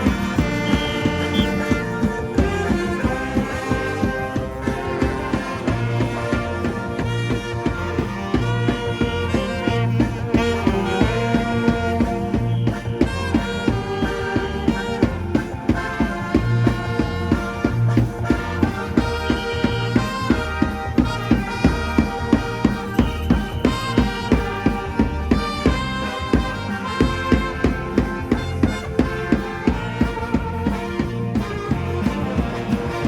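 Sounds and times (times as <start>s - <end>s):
brass melody: 0.0s - 33.0s
steady drum beat: 0.0s - 33.0s.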